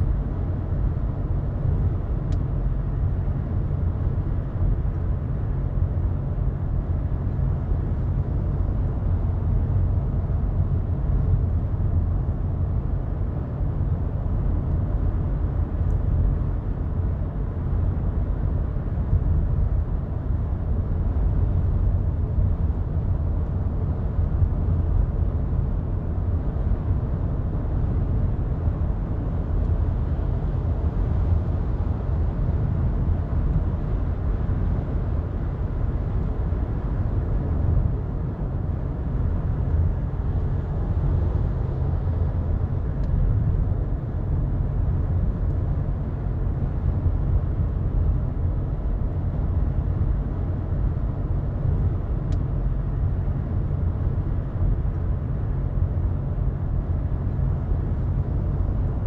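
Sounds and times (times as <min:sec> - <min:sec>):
road and engine noise in car: 0:00.0 - 0:59.0.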